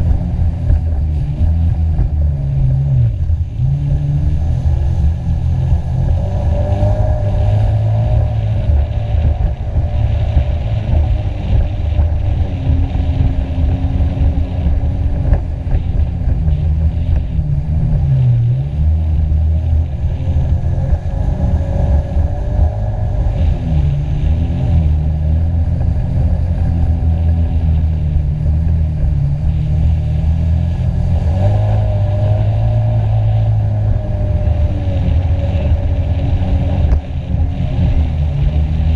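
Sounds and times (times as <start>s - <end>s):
jet ski engine running hard: 0.0s - 38.9s.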